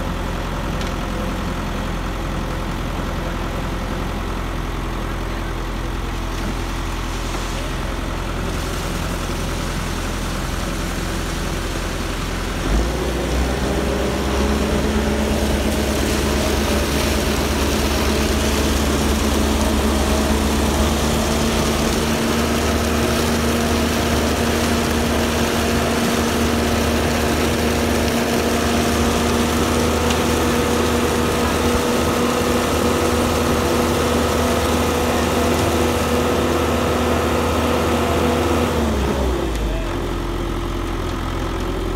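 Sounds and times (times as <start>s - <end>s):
diesel engine running: 0.0s - 41.9s
concrete pouring down chute: 3.6s - 41.9s.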